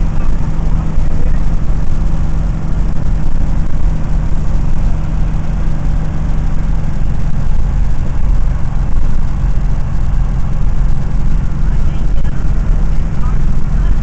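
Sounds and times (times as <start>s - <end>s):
bus diesel engine droning: 0.0s - 14.0s
road noise: 0.0s - 14.0s.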